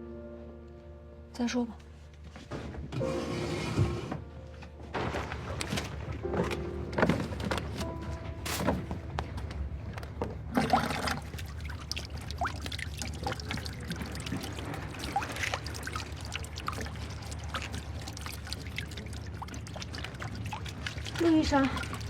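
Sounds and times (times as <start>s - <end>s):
water trickling and sloshing: 3.8s - 22.0s.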